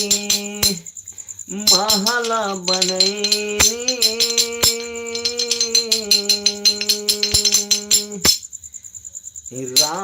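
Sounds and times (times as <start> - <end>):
quick rattling shaker beat: 0.0 - 8.6, 9.7 - 10.0.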